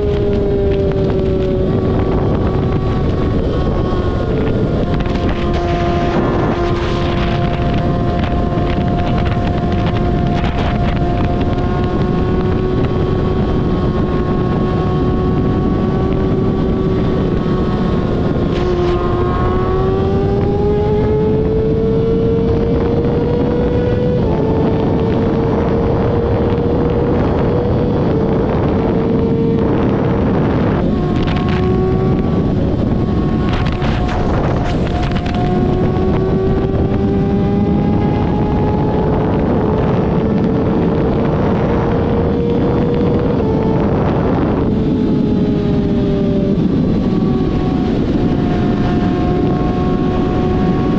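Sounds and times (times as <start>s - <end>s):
vehicle engine droning: 0.0s - 50.9s
wind noise on microphone: 0.0s - 50.9s.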